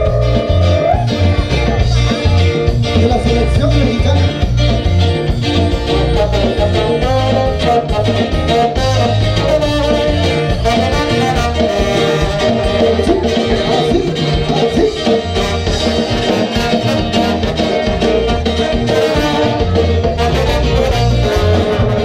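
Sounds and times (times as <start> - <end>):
latin dance music: 0.0 - 22.0.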